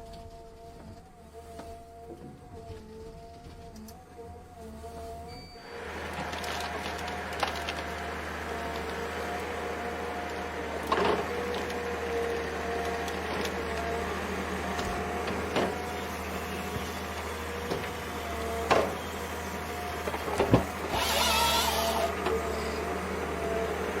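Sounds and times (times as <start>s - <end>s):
heavy machine engine whining hum: 0.0s - 24.0s.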